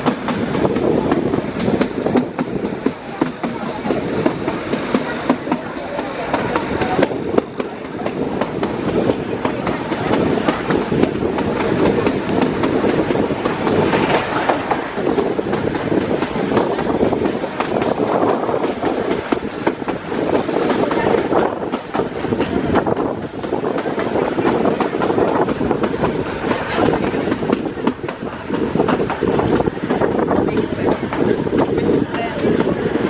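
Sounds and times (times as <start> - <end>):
train carriages rumbling: 0.0 - 33.0.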